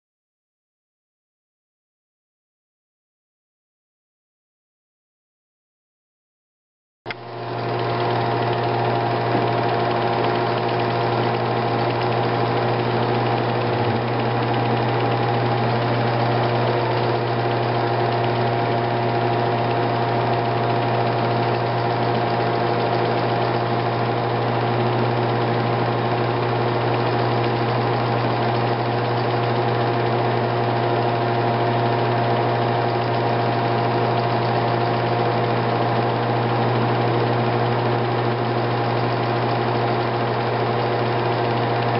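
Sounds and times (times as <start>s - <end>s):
steady mechanical hum: 7.1s - 41.9s.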